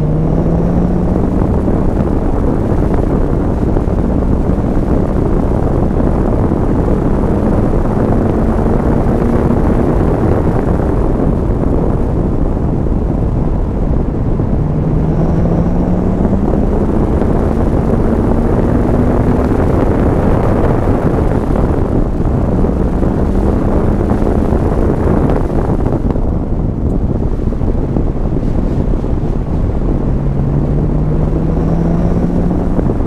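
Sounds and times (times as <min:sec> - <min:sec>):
car engine accelerating: 0:00.0 - 0:33.0
tyre and wind noise: 0:00.0 - 0:33.0.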